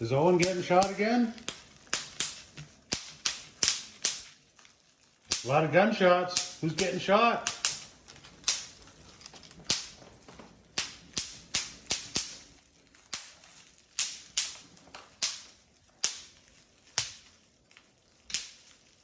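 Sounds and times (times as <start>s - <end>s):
bubble wrap popping: 0.0s - 19.0s.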